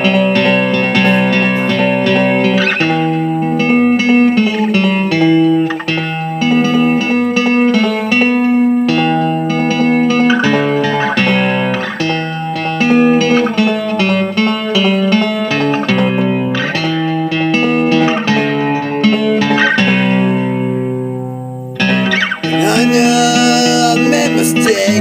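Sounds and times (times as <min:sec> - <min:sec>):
guitar playing chords and notes: 0:00.0 - 0:25.0.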